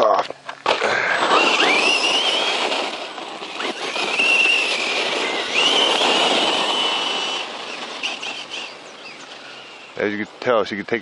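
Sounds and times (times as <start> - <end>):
tyres churning soft dirt: 0.0 - 11.0
electric motor whining: 0.6 - 10.1.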